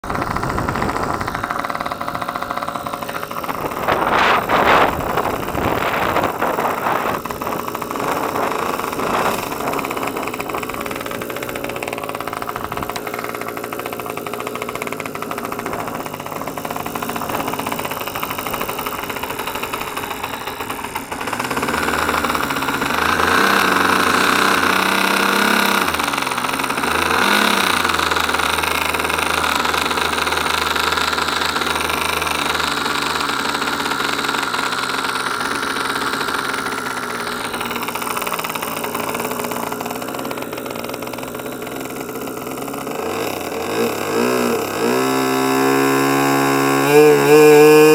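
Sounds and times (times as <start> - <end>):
model airplane engine running: 0.0 - 47.9.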